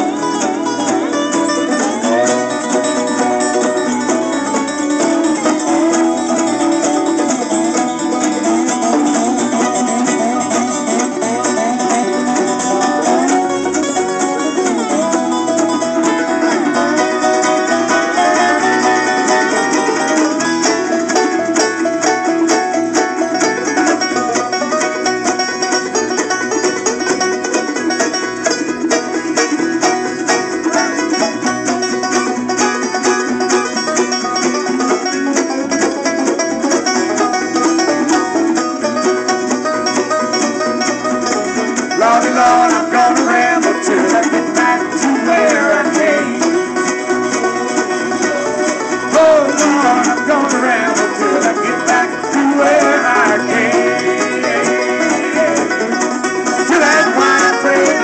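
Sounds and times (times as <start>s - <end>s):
banjo rolls: 0.0s - 58.0s
bluegrass band playing live: 0.0s - 58.0s.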